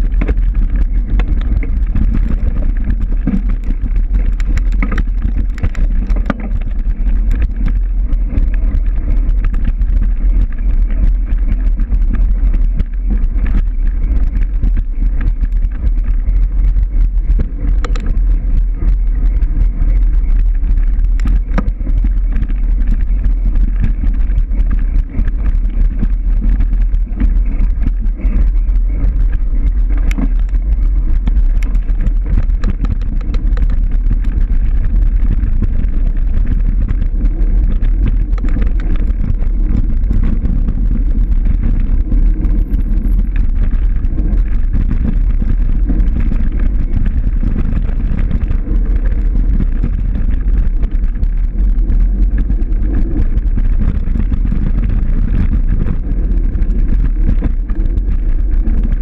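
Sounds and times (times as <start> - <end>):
knocks and rattles: 0.0 - 51.3
wind buffeting microphone: 0.0 - 59.0.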